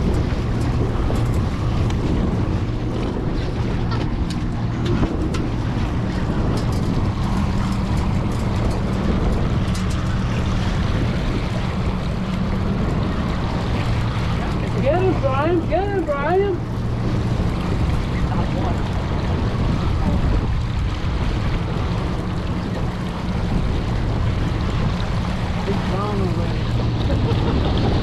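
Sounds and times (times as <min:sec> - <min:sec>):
boat engine humming: 0:00.0 - 0:28.0
water noise: 0:00.0 - 0:28.0
wind on microphone: 0:00.0 - 0:28.0.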